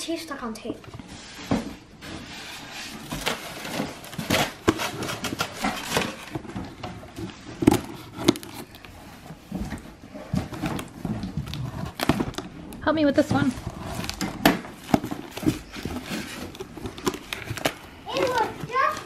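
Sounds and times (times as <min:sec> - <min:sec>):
styrofoam rubbing and knocking: 0:01.3 - 0:19.0
plastic wrap crinkling: 0:02.4 - 0:19.0.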